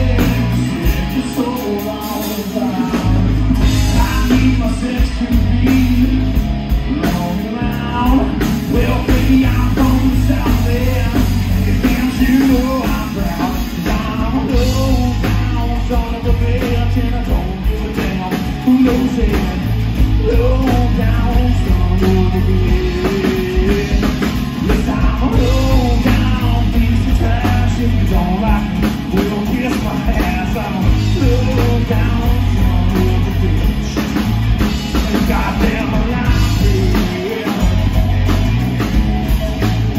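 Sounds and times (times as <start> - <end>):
drum kit: 0.0 - 39.9
electric bass: 0.0 - 39.9
man singing lead: 0.0 - 39.9.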